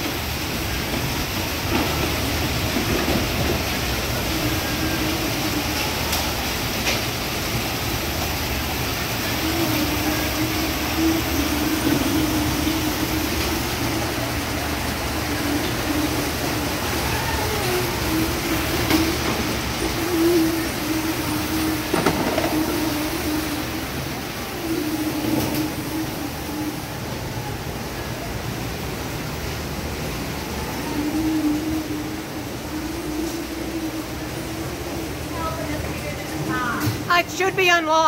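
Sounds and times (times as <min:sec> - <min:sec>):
machine hum: 0:00.0 - 0:37.9
conveyor belts and rollers running: 0:00.0 - 0:38.0.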